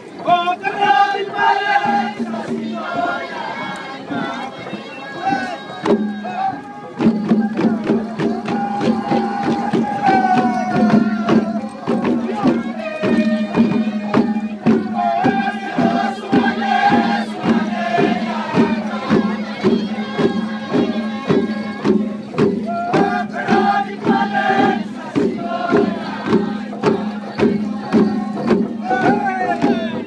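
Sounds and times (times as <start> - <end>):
group singing a chant-like song: 0.0 - 30.0
hand drums beating: 4.1 - 30.0.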